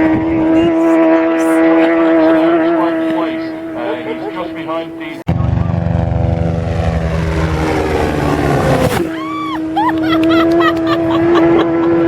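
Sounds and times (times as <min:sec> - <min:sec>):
racing motorcycle engine: 0:00.0 - 0:12.0.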